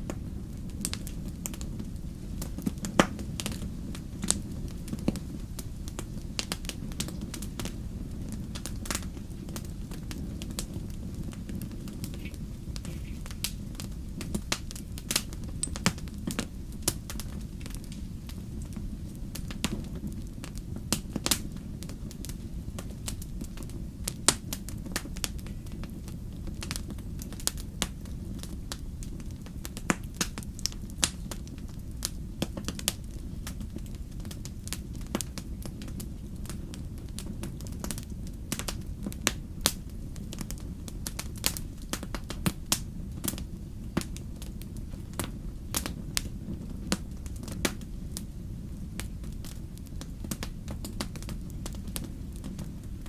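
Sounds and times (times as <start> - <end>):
campfire crackling and popping: 0.0 - 53.0
low rumble of flames: 0.0 - 53.0.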